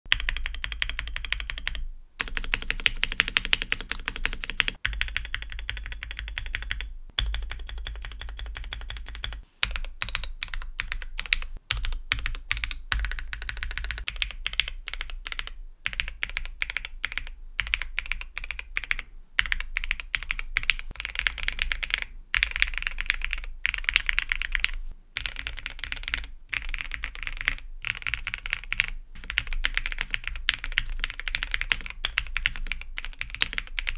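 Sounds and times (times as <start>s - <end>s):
mechanical keyboard typing: 0.1s - 33.9s.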